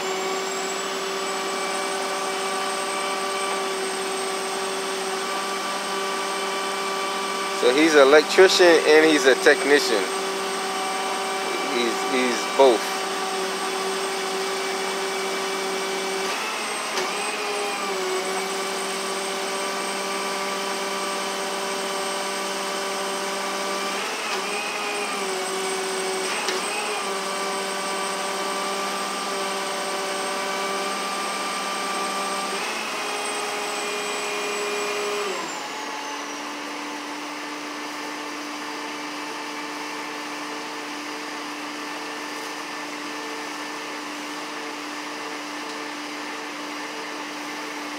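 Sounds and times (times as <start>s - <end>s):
motor running with whine: 0.0s - 47.9s.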